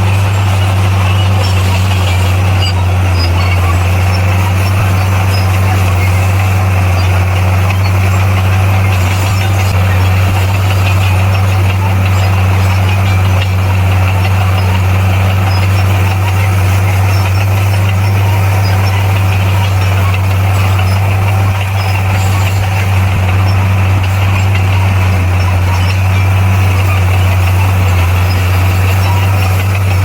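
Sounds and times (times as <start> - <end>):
bulldozer diesel engine droning: 0.0 - 30.0.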